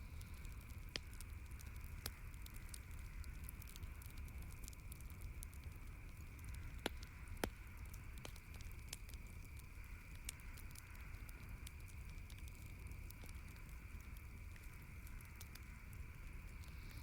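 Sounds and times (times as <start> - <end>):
background hiss and low rumble: 0.0 - 17.0
sharp fire pops: 0.0 - 17.0
wood campfire crackling: 0.0 - 17.0.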